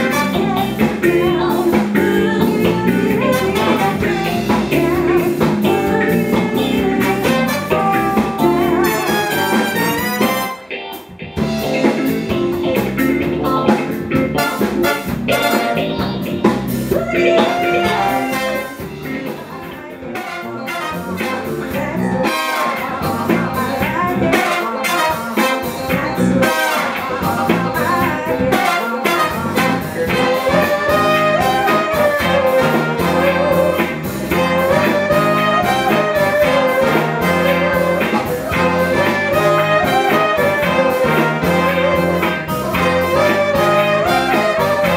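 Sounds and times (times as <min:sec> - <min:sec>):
horns playing melody: 0:00.0 - 0:11.0, 0:14.2 - 0:16.1, 0:17.0 - 0:19.4, 0:20.0 - 0:23.3, 0:24.3 - 0:44.9
band playing soul-funk: 0:00.0 - 0:44.9.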